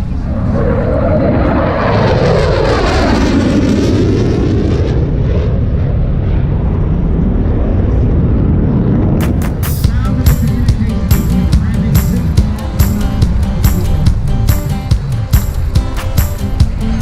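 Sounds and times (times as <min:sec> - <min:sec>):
airplane flying past: 0:00.0 - 0:17.0.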